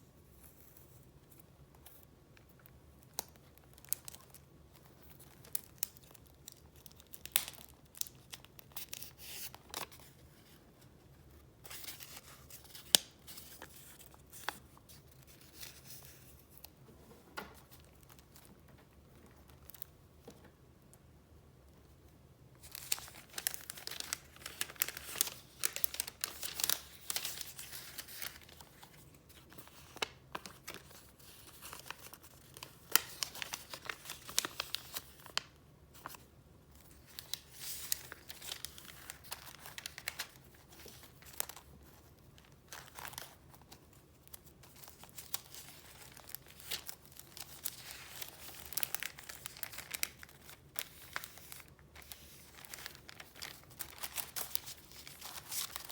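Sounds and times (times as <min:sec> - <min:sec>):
paper crinkling and rustling: 0:00.2 - 0:20.6, 0:22.5 - 0:55.9.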